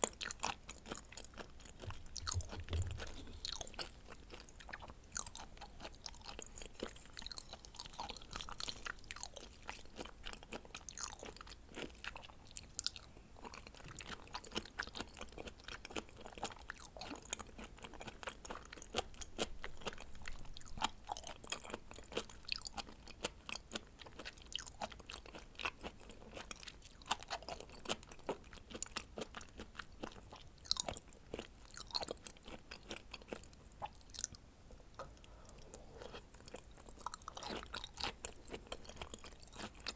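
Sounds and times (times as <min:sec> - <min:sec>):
chewing raw fish: 0:00.0 - 0:39.9.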